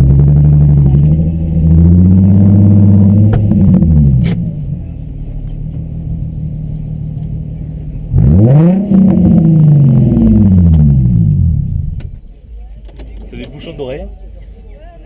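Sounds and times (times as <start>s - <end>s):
car engine revving with loud exhaust: 0.0s - 12.5s.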